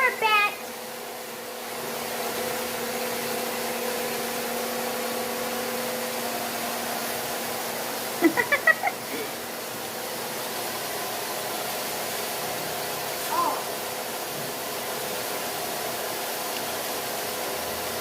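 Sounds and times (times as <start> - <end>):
appliance hum and hiss: 0.0 - 18.0.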